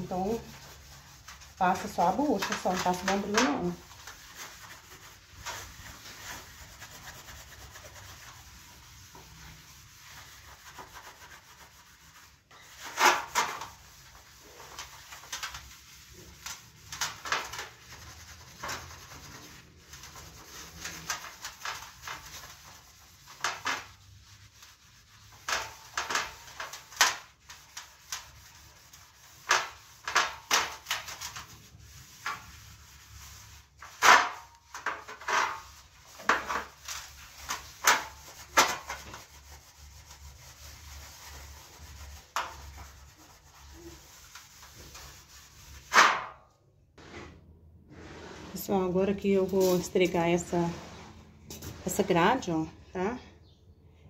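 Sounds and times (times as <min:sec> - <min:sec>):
steel wool scouring metal: 0:00.0 - 0:45.9, 0:47.9 - 0:52.5.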